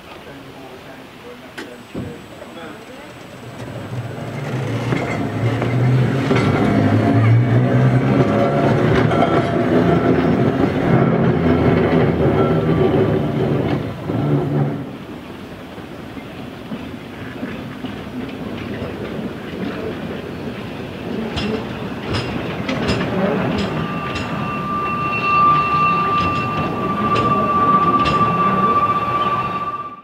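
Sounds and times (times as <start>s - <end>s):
steam train rumble: 0.0s - 30.0s
tram hum and wheel rumble: 1.7s - 30.0s.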